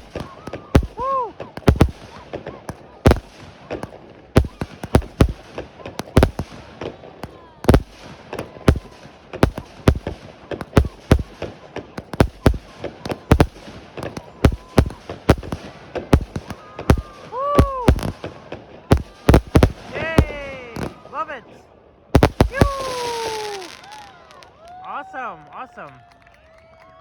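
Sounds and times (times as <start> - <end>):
fireworks bangs and pops: 0.0 - 21.4, 22.1 - 24.8.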